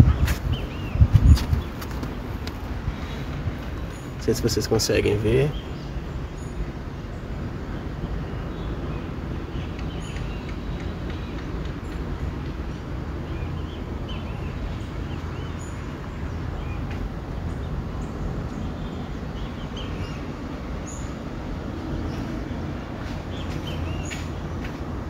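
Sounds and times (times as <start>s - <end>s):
low rumble of city ambience: 0.0s - 25.0s
small birds chirping: 0.0s - 25.0s.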